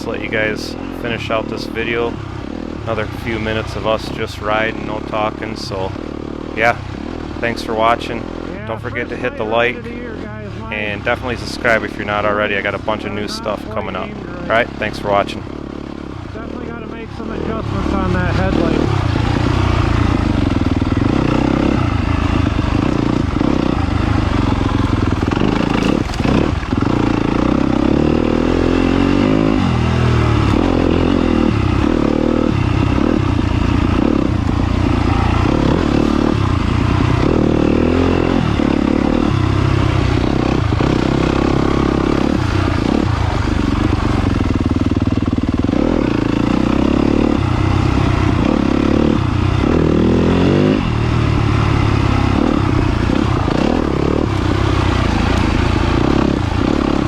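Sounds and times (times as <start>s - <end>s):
motorcycle engine revving while riding: 0.0s - 57.0s.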